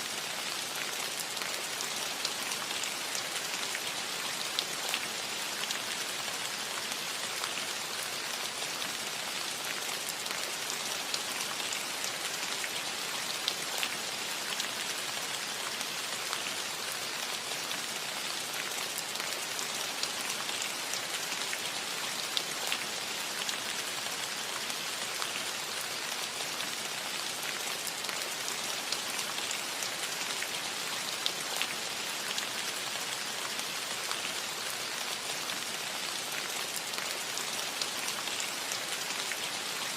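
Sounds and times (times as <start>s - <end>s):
light rain on a metal roof: 0.0s - 39.9s.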